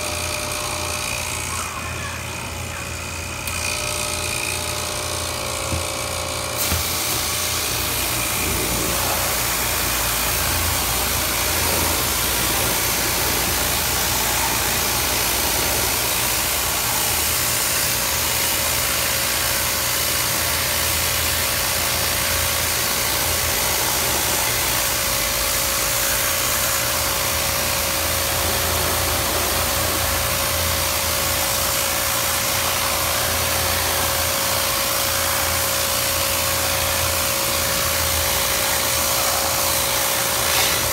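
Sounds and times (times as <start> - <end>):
machine motor humming: 0.0 - 40.9.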